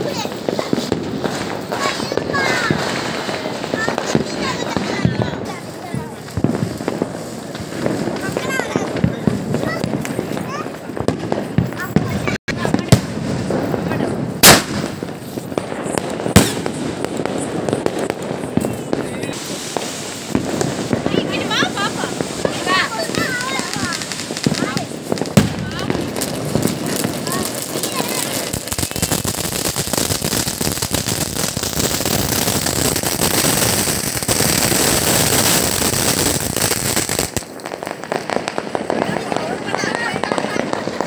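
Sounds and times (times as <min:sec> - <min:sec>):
firework bangs: 0:00.0 - 0:41.0
fireworks crackling and popping: 0:00.0 - 0:41.0.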